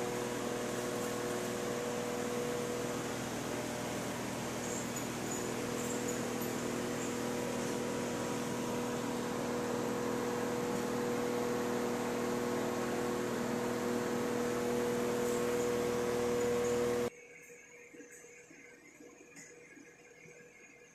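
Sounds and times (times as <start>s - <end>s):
air cooler motor hum and fan hiss: 0.0s - 17.1s.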